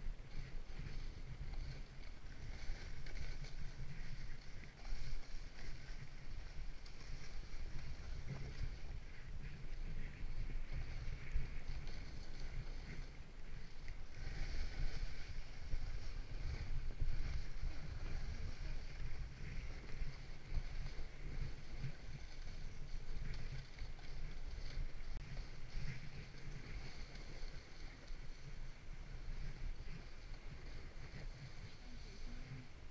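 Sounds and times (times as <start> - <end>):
sled sliding on snow: 0.0 - 32.9
wind buffeting microphone: 0.0 - 32.9.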